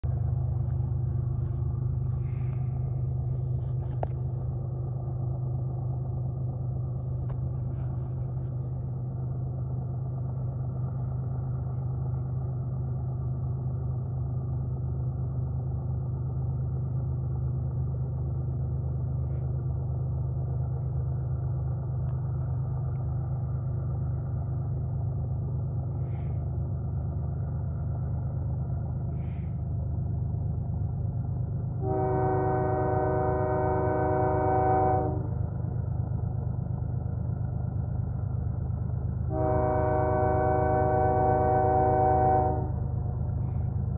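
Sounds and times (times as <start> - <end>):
low engine drone: 0.0 - 43.9.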